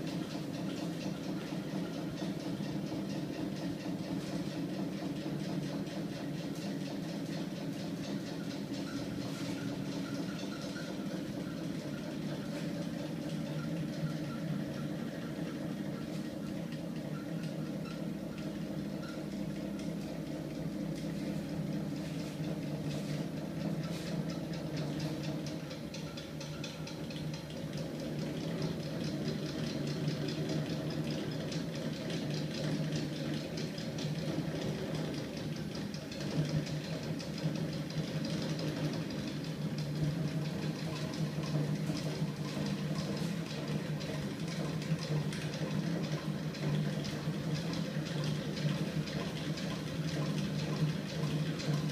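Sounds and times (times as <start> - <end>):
fast mechanical clatter: 0.0 - 51.9
motor low hum: 0.0 - 51.9.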